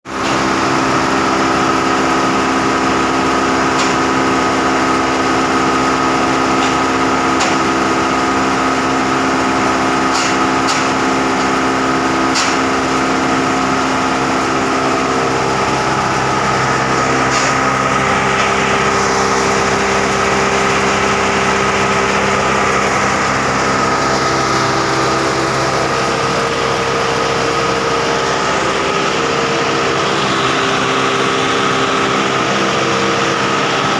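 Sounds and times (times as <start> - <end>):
wood chipper droning: 0.1 - 33.9.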